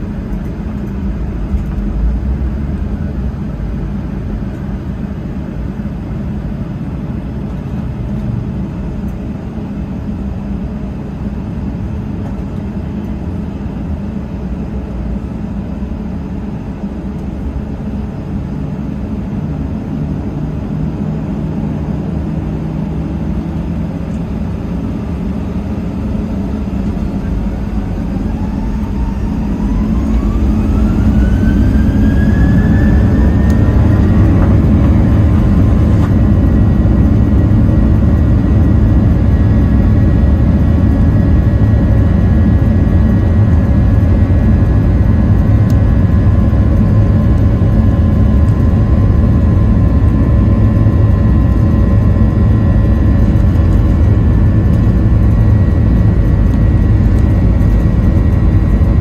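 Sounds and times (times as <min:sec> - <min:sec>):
jet engine whine rising: 0:00.0 - 0:59.0
jet engines low rumble: 0:00.0 - 0:59.0.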